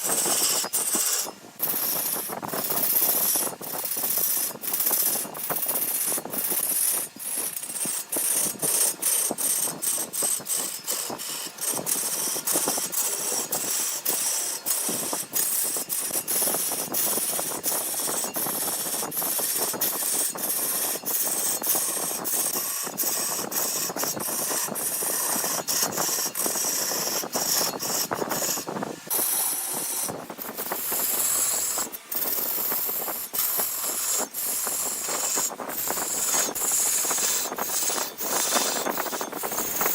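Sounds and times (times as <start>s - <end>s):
turning tool scraping wood: 0.0s - 39.9s
wood lathe spinning: 0.0s - 39.9s.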